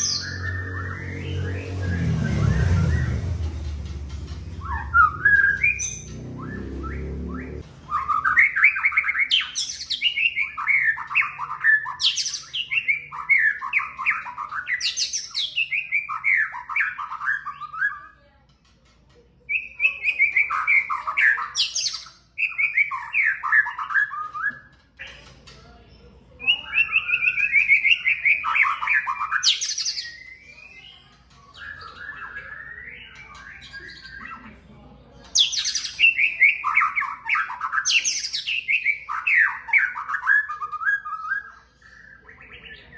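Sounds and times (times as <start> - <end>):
bird singing whistled phrases: 0.0 - 3.3, 4.6 - 18.2, 19.5 - 24.7, 26.4 - 34.2, 35.4 - 42.9.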